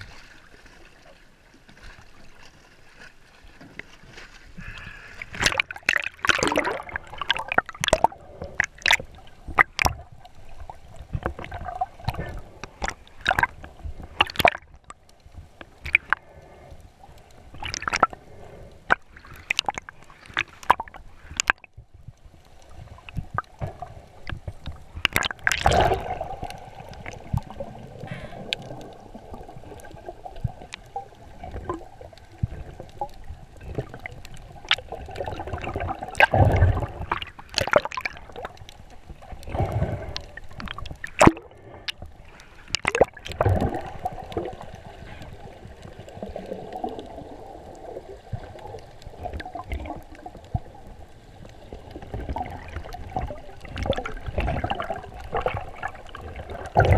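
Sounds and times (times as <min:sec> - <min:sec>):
underwater gurgling and sloshing: 0:00.0 - 0:56.9.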